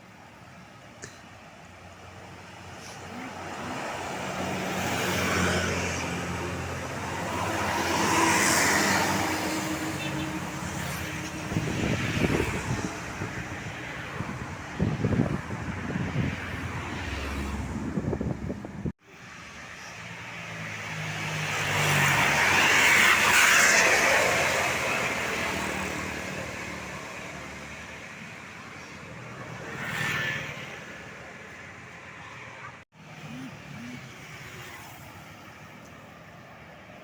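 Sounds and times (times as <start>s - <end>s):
roadside traffic noise: 0.0s - 37.0s
bus passing by: 1.5s - 37.0s.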